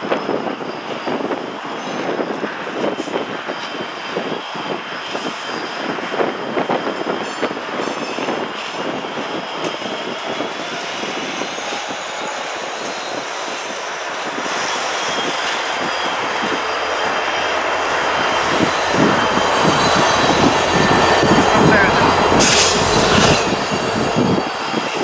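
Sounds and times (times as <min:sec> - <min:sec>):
diesel locomotive engines: 0:00.0 - 0:25.0
train wheels on rails: 0:00.0 - 0:25.0.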